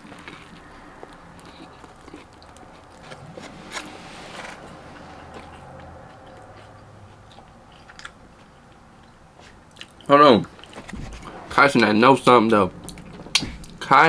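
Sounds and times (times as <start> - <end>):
person chewing: 0.0 - 11.3, 12.5 - 13.8.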